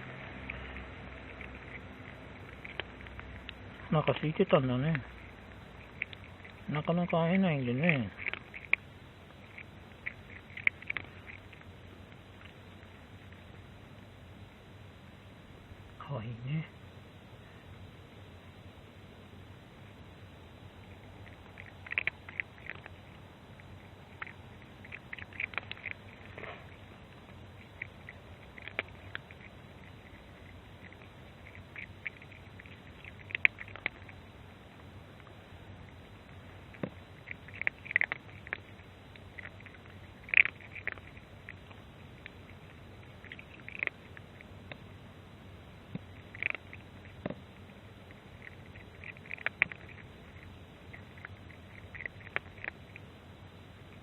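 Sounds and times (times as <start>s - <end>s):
cat chewing food: 0.0s - 14.8s, 19.4s - 54.0s.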